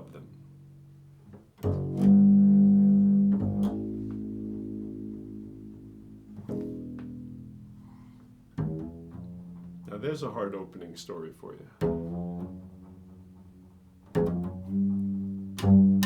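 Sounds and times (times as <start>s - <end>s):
low string instrument notes: 0.0s - 16.0s.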